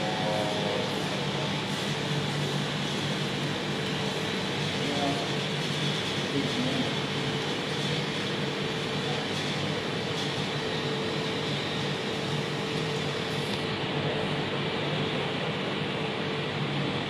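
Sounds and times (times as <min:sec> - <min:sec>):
ventilation hum and hiss: 0:00.0 - 0:17.0.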